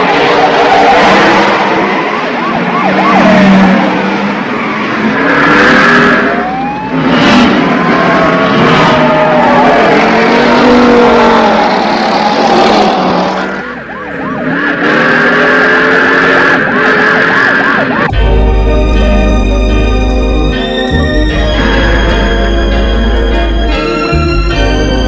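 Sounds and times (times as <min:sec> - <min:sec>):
car engines running hard: 0:00.0 - 0:25.0
police siren wailing: 0:00.0 - 0:25.0.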